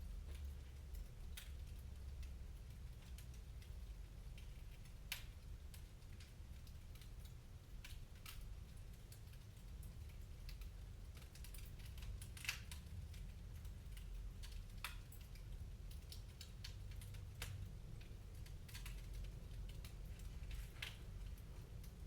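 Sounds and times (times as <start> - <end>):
low rumble of fire: 0.0 - 22.0
wood fire crackling and popping: 0.1 - 22.0.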